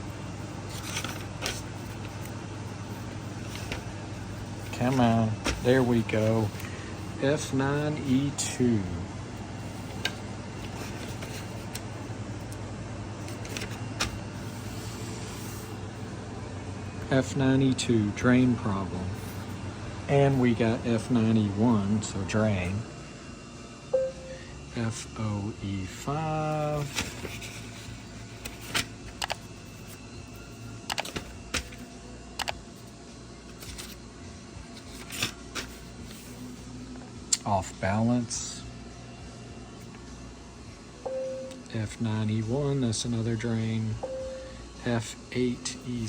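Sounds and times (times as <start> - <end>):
low background hum: 0.0 - 46.0.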